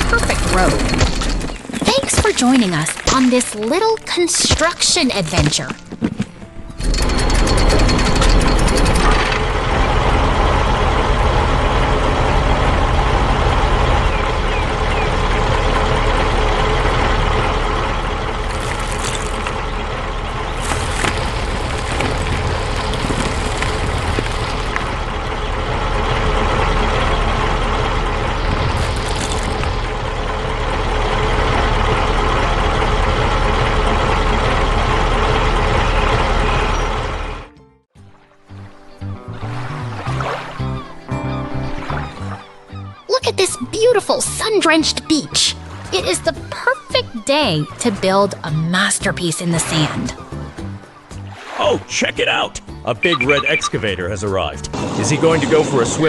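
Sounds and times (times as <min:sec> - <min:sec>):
heavy vehicle engine running: 0:00.0 - 0:51.3, 0:52.6 - 0:56.0.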